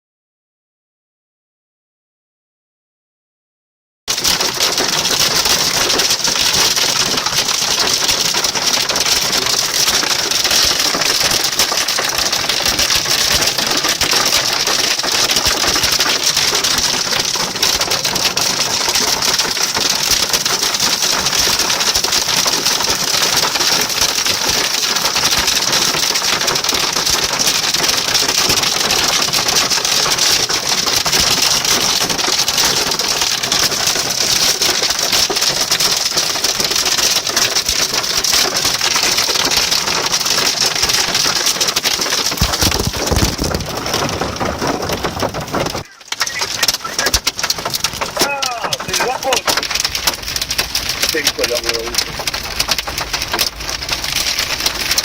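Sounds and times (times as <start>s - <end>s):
hailstones clattering: 4.1s - 55.0s.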